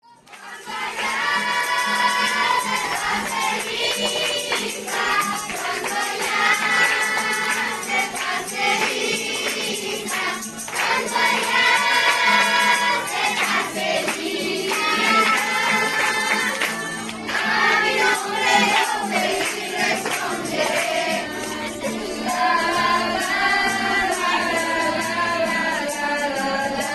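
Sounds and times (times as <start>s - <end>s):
group singing worship song: 0.3s - 26.9s
tambourine: 0.4s - 26.9s.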